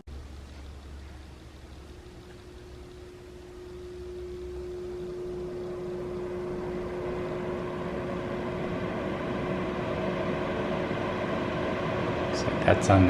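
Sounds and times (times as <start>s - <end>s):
steady hum: 0.0s - 13.0s
air purifier fan rushing: 0.1s - 13.0s.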